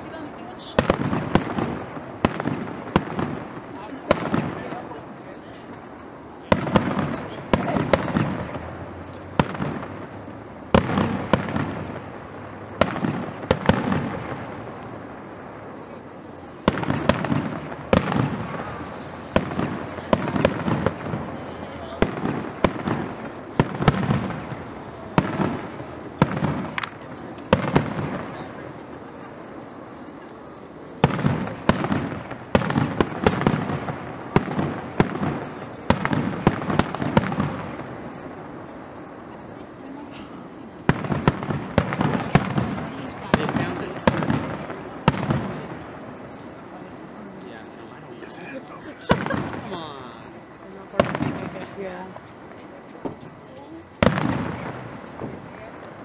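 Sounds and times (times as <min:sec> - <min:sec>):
fireworks bursting with echo: 0:00.0 - 0:56.0.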